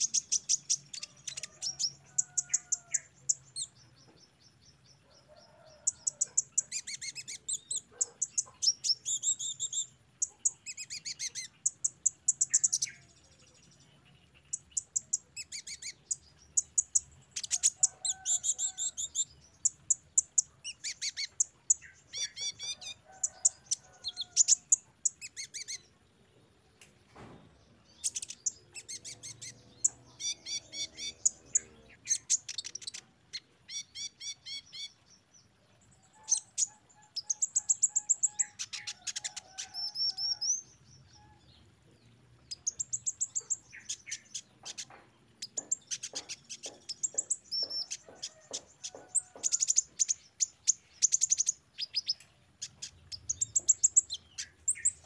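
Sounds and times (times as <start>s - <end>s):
sunbird chirps and trills: 0.0s - 55.0s.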